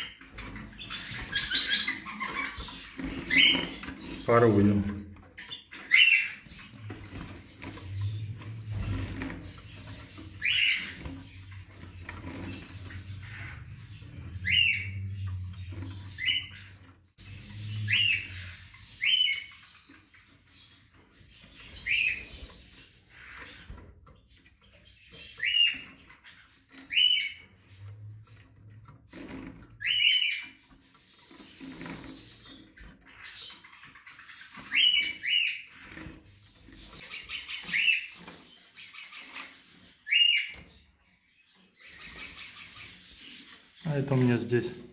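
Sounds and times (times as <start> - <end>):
canaries chirping: 0.0 - 44.9.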